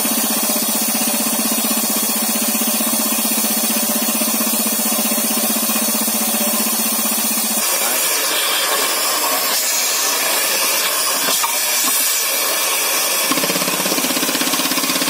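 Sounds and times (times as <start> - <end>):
rock drill pulsing beat: 0.0 - 15.0.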